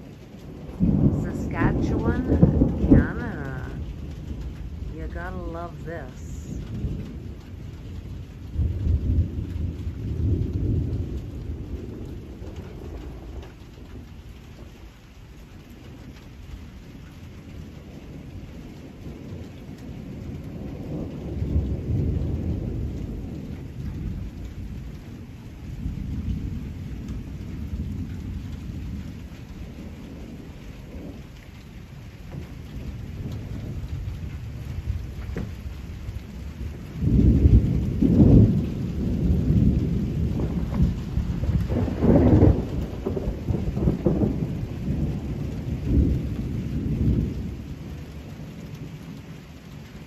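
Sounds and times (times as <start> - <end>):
thunder rolling: 0.0 - 14.8, 17.7 - 49.2
steady rain: 0.0 - 50.0.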